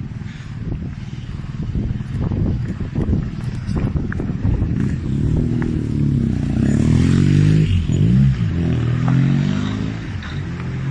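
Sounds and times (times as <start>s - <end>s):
street noise clatter: 0.0s - 10.9s
vehicle engine accelerating: 0.0s - 10.9s.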